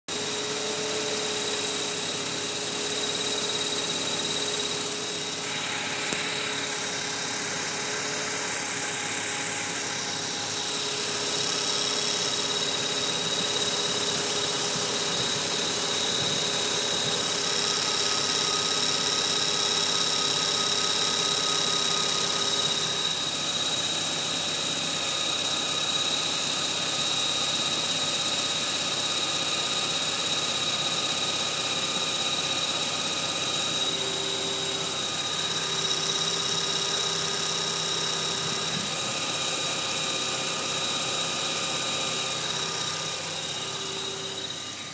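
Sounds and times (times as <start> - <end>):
rotary engine running: 0.1 - 44.9.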